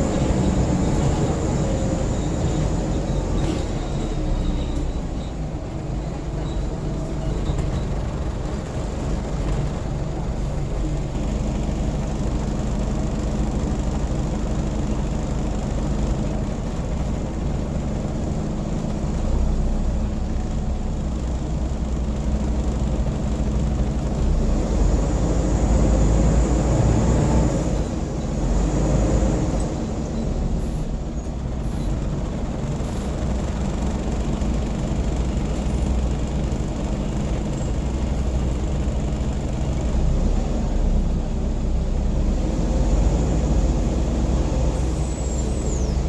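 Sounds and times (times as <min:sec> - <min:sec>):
bus engine humming: 0:00.0 - 0:46.0.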